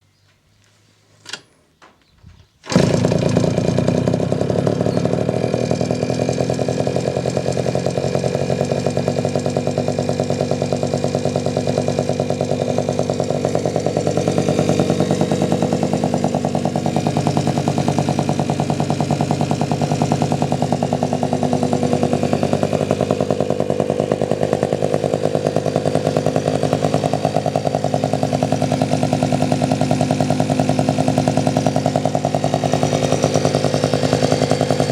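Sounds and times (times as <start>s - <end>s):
moped two-stroke engine running: 2.6s - 34.9s.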